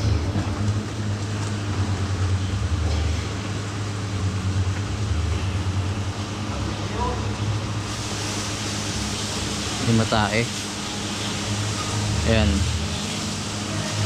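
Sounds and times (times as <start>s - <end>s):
milking machinery humming: 0.0s - 14.0s.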